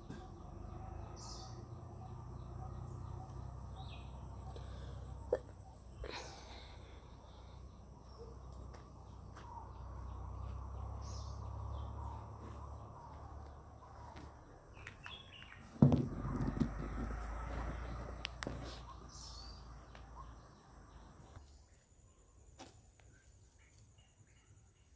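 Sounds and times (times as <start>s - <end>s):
low outdoor rumble: 0.0s - 21.4s
faint bird chirps: 0.0s - 24.9s.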